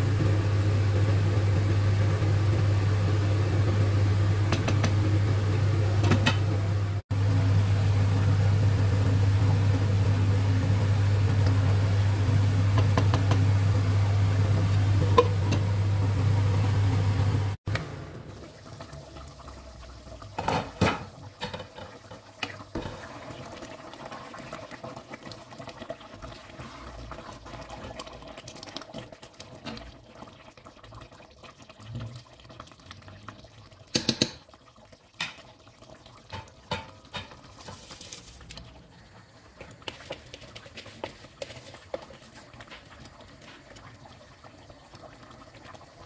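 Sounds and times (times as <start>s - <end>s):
pot simmering: 0.0s - 46.0s.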